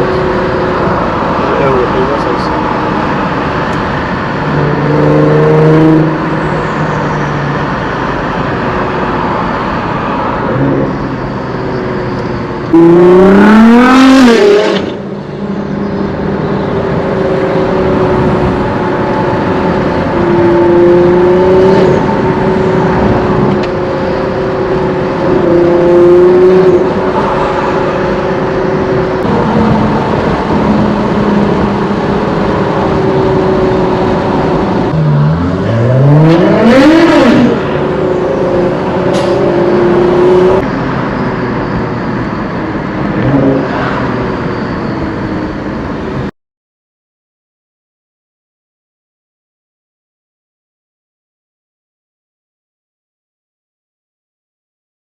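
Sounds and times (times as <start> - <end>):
car engine revving: 0.0 - 46.3.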